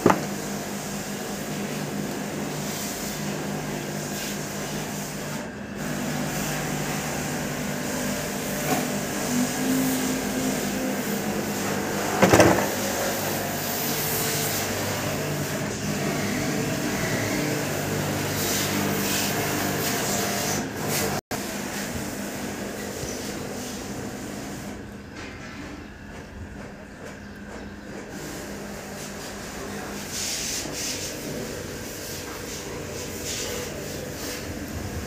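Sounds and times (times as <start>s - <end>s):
mechanical hum: 0.0s - 35.0s.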